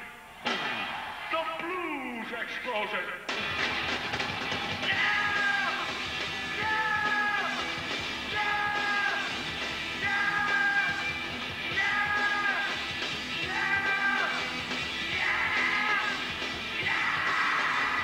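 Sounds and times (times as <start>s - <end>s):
live blues rock band: 3.3s - 18.0s.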